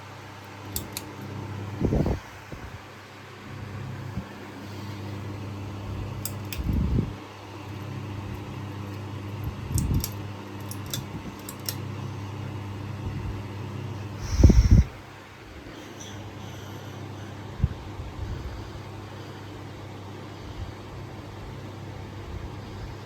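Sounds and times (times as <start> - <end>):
ceiling fan motor hum: 0.0 - 23.0.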